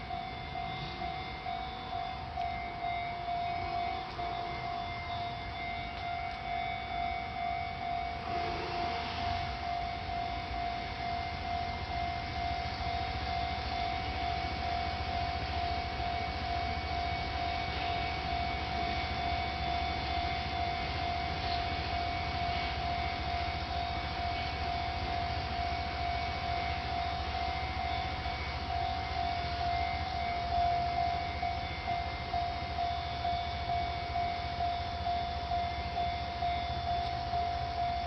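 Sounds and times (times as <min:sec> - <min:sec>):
level crossing alarm ringing: 0:00.0 - 0:38.0.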